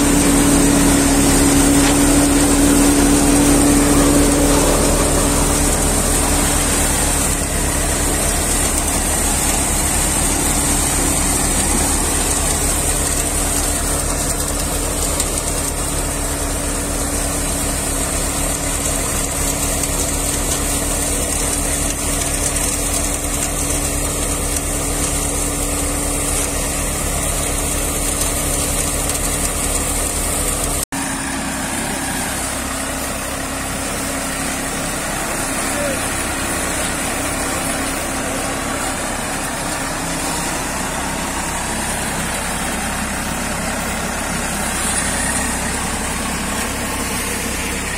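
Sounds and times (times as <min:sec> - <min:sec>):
tractor and thresher droning: 0:00.0 - 0:47.9.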